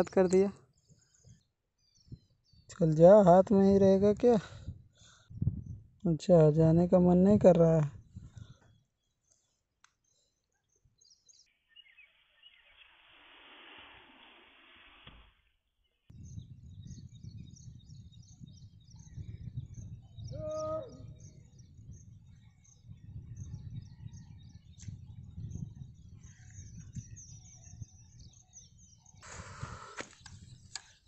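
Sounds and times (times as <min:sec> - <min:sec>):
small birds chirping: 0:00.0 - 0:04.2, 0:04.9 - 0:13.4, 0:15.8 - 0:31.0.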